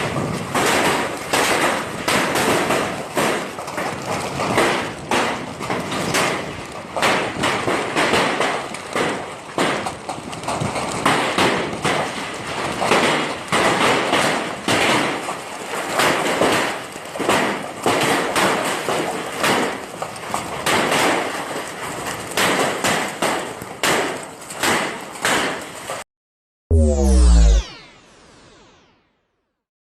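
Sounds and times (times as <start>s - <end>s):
hail clattering on hard surfaces: 0.0s - 25.2s.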